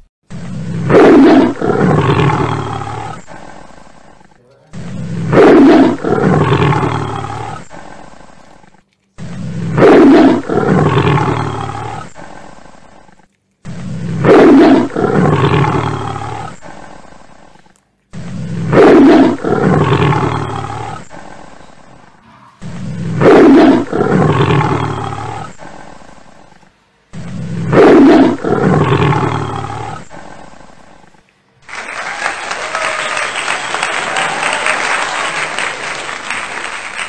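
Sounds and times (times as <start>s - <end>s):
deep animal roar: 0.3s - 31.2s.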